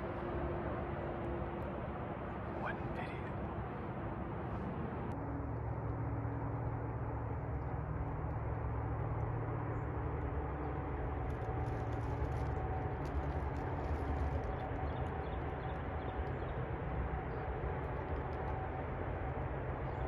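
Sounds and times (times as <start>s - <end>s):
distant engine drone: 0.0s - 20.0s.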